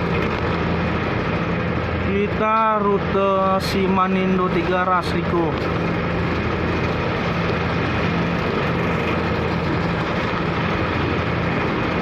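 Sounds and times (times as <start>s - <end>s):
ferry engine droning: 0.0s - 12.0s
rushing noise: 0.0s - 12.0s.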